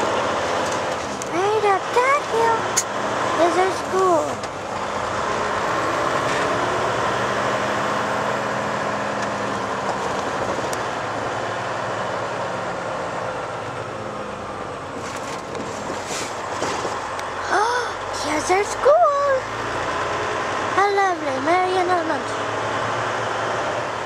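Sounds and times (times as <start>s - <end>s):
road and wind noise: 0.0s - 24.0s
truck engine drone: 0.0s - 24.0s.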